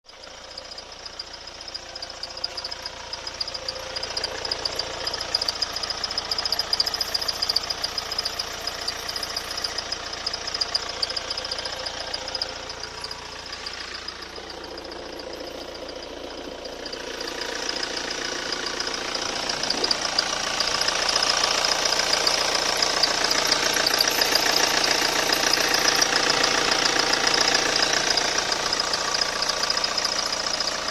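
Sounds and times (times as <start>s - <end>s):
diesel engine running: 0.1s - 30.9s.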